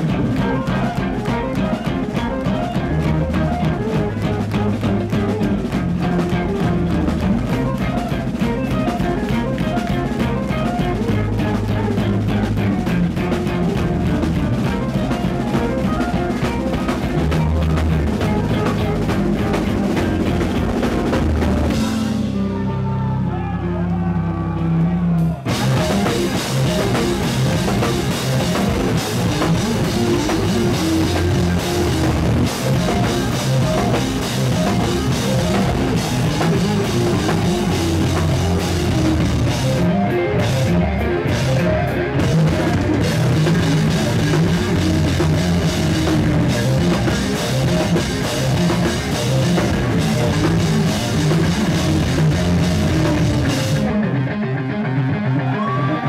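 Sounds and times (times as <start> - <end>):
drum kit with cymbals: 0.0 - 22.5, 25.4 - 54.0
bass guitar: 0.0 - 56.0
distorted electric guitars: 0.0 - 56.0.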